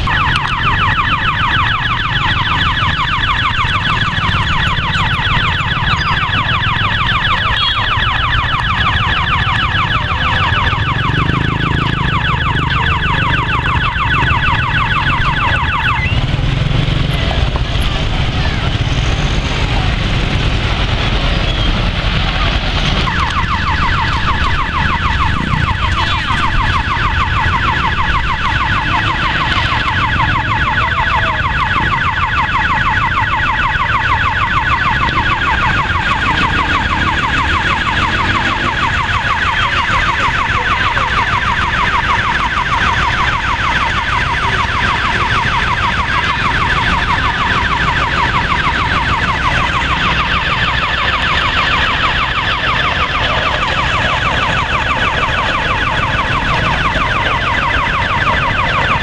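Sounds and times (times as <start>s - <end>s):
electronic warning siren warbling: 0.0s - 59.0s.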